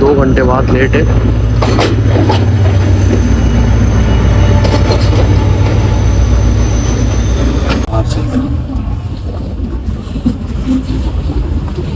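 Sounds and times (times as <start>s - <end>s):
diesel locomotive engine rumbling: 0.0s - 11.9s.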